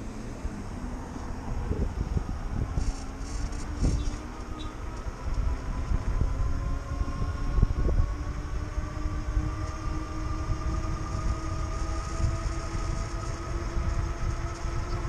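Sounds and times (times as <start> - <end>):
tyres on asphalt: 0.0 - 15.0
wind on microphone: 0.0 - 15.0
electric bike motor whining: 0.1 - 15.0.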